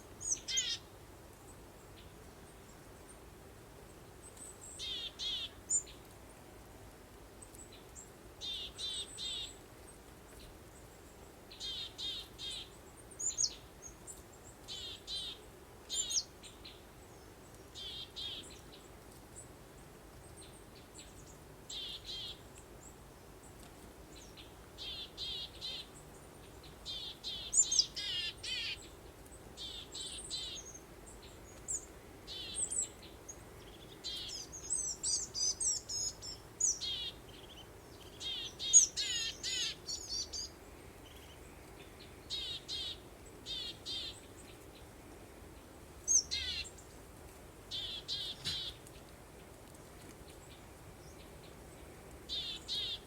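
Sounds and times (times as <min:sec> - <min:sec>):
faint steady background hiss: 0:00.0 - 0:53.0
songbirds chirping: 0:00.0 - 0:53.0.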